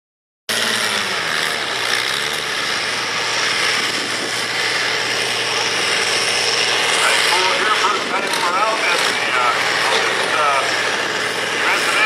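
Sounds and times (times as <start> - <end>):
tractor engine working hard: 0.5 - 12.0.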